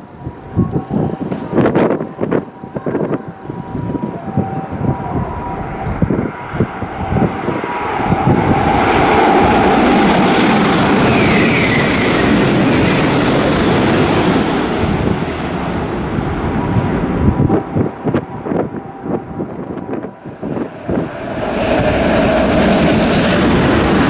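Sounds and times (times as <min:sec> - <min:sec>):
high-speed train rushing past: 0:00.0 - 0:24.0.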